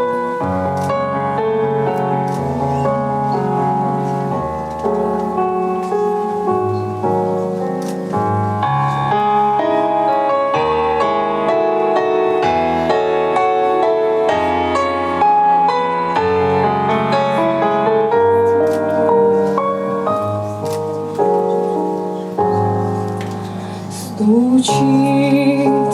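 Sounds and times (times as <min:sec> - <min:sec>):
slow piano playing: 0:00.0 - 0:25.9.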